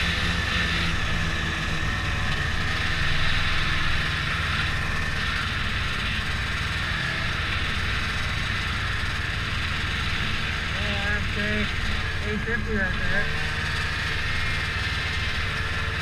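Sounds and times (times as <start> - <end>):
snowmobile running over snow: 0.0 - 16.0.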